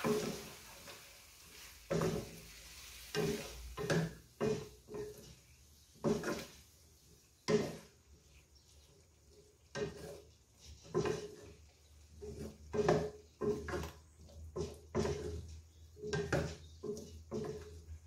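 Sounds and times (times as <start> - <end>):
wooden spatula scraping frying pan: 0.0 - 18.0.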